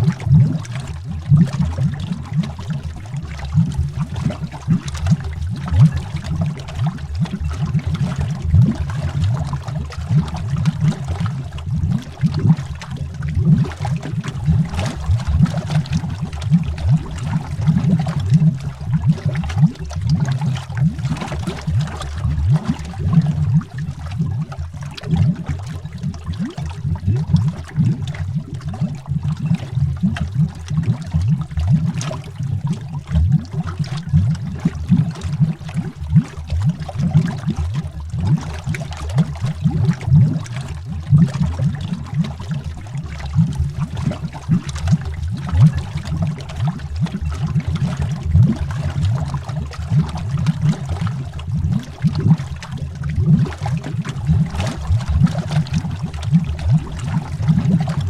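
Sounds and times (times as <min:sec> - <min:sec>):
air bubbles rising through water: 0:00.0 - 0:58.0.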